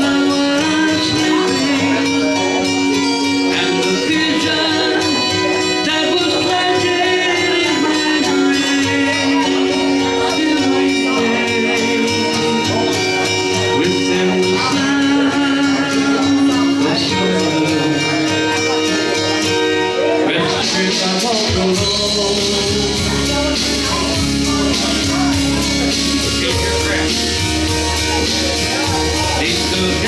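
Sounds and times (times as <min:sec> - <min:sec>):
acoustic guitar strumming: 0:00.0 - 0:30.0
person singing: 0:00.0 - 0:30.0.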